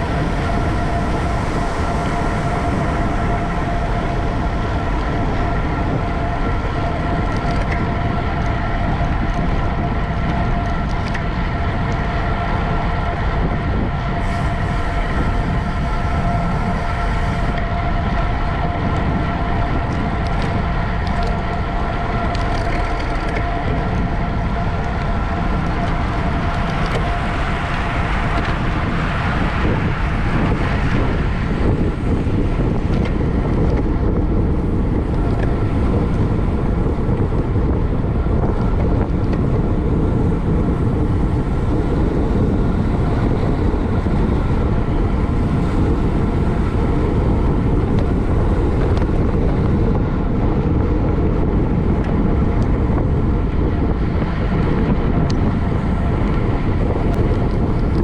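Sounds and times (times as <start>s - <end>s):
road noise: 0.0s - 58.0s
steady hum: 0.0s - 58.0s
wind on microphone: 0.0s - 58.0s.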